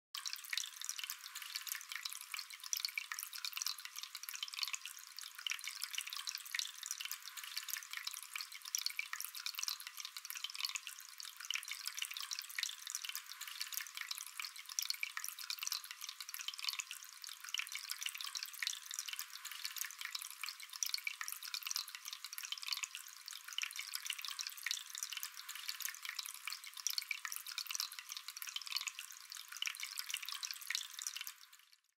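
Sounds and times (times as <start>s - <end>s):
tabletop fountain trickling: 0.2s - 31.9s.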